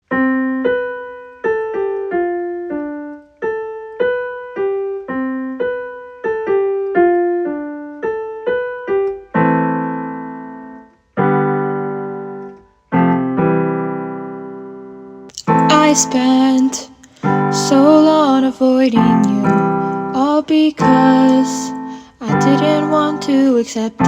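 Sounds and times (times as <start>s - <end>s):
piano melody: 0.0s - 24.0s
sustained piano chords: 0.1s - 24.0s.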